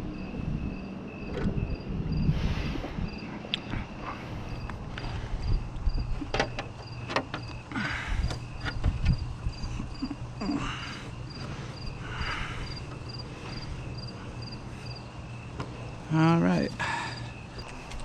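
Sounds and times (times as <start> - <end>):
cricket chirping: 0.0 - 18.0
low steady hum: 0.0 - 18.0.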